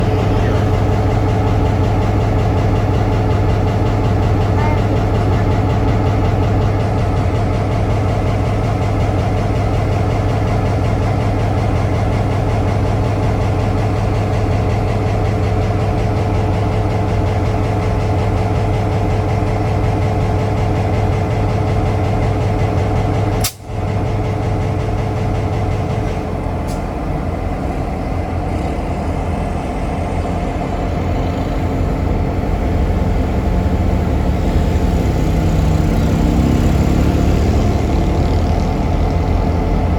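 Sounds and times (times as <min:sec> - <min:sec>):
locomotive engine humming: 0:00.0 - 0:39.9.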